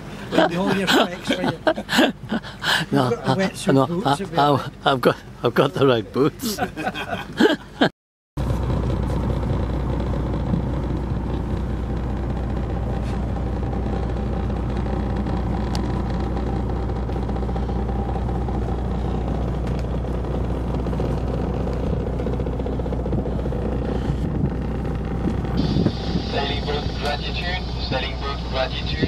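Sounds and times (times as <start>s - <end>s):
boat engine idling: 0.0s - 7.8s, 8.4s - 29.0s.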